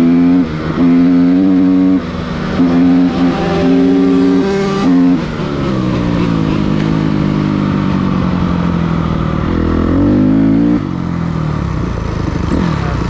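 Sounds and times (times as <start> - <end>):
dirt bike engine revving: 0.0 - 11.1, 11.9 - 13.0.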